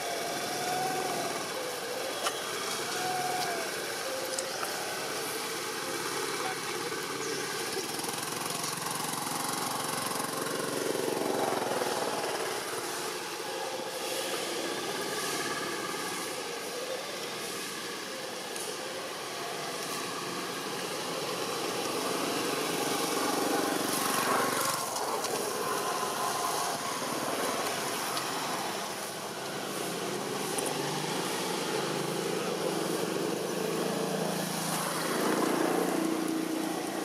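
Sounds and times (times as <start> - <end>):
passing traffic engine noise: 0.0 - 37.0.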